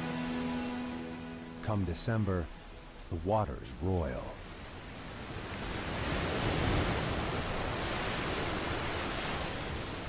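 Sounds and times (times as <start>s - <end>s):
sea waves breaking: 0.0s - 10.0s.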